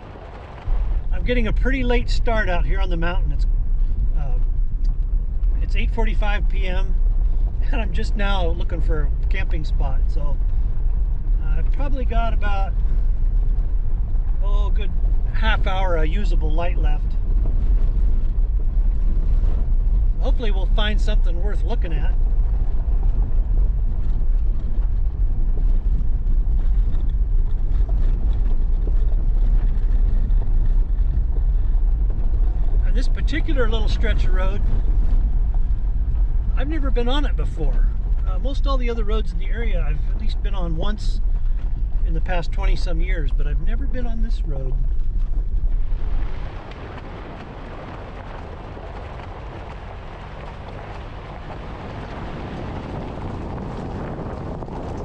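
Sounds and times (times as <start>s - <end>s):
engine and tyres rumbling: 0.0s - 55.0s
road noise: 0.0s - 55.0s.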